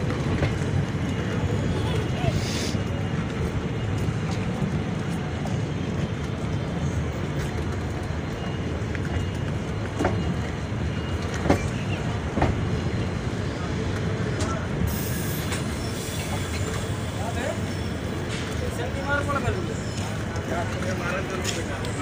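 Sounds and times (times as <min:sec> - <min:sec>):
train coach rumbling: 0:00.0 - 0:22.0.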